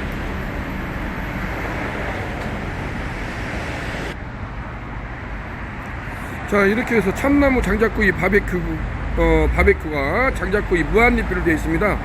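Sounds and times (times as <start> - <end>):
road traffic going by: 0.0 - 12.0.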